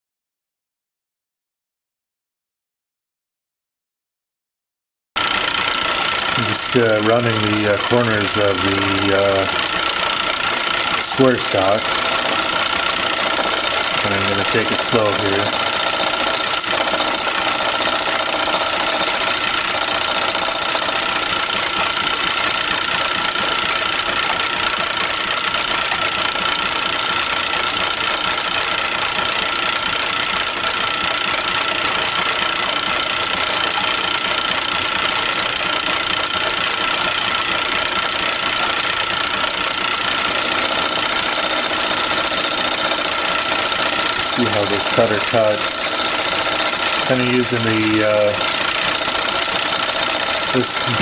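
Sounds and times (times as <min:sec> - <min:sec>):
metal lathe whining: 0:05.2 - 0:51.0.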